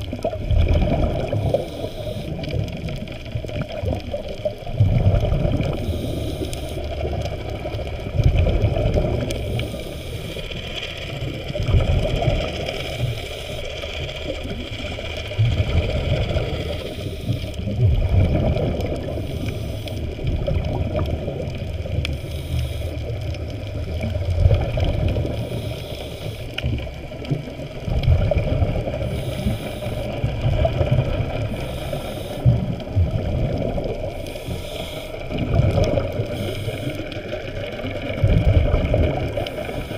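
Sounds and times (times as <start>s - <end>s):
underwater surges of water: 0.0s - 39.9s.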